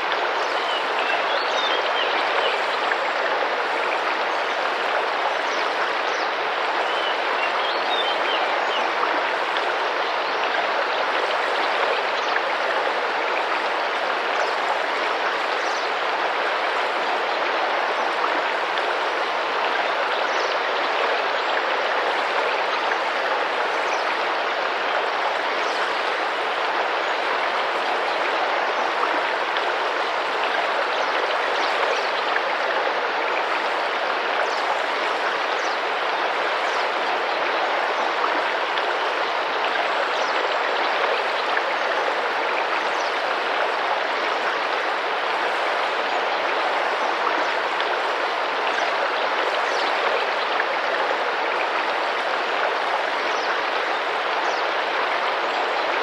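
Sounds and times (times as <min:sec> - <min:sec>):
river water rushing and splashing: 0:00.0 - 0:56.0.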